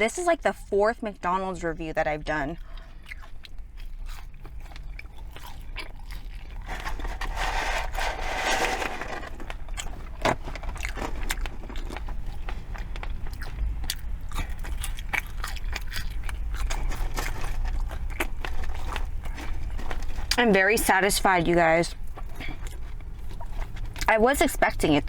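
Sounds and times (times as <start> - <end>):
chewing and crunching food: 0.2 - 25.0.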